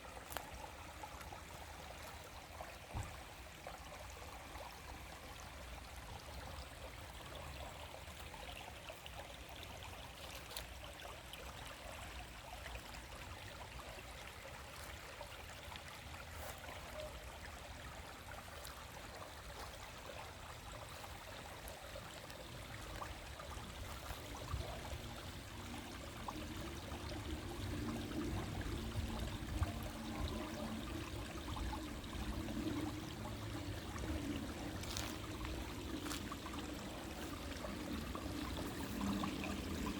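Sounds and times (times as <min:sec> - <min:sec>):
stream babbling over its bed: 0:00.0 - 0:39.9.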